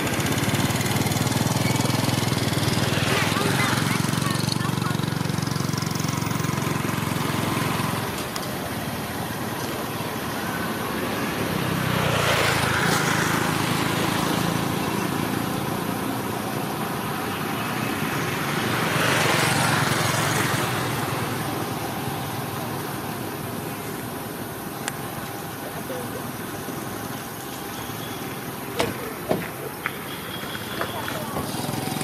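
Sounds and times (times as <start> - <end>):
motor engine running: 0.0 - 32.0.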